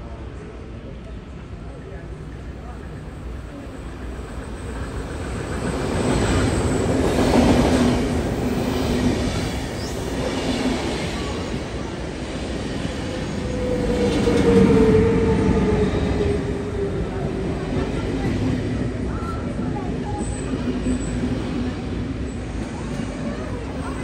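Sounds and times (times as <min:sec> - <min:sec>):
train wheels rumbling on rails: 0:01.1 - 0:24.0.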